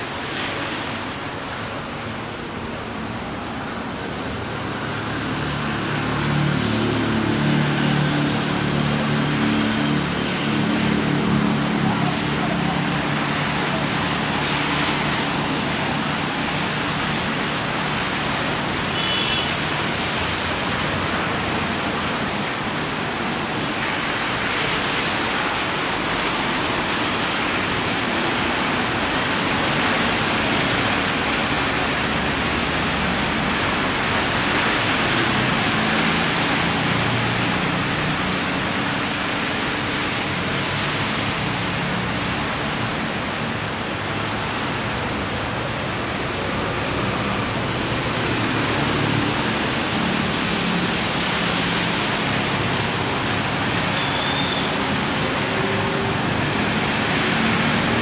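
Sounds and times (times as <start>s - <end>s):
cars passing on wet road: 0.0s - 58.0s
heavy rain hissing: 0.0s - 58.0s.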